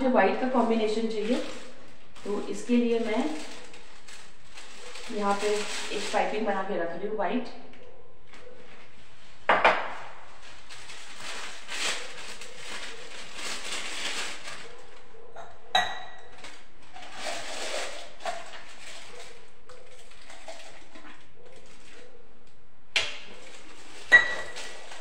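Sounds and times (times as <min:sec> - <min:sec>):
piping bag rustling and scraping: 0:00.2 - 0:06.7, 0:08.2 - 0:15.1, 0:16.3 - 0:22.2, 0:23.2 - 0:25.0.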